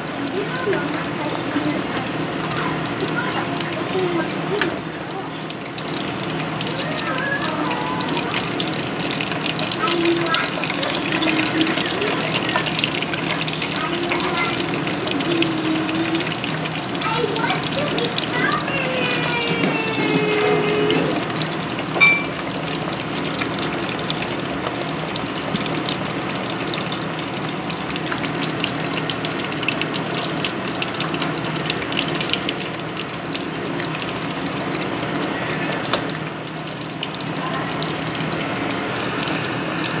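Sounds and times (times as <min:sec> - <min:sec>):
meat sizzling in hot oil: 0:00.0 - 0:40.0.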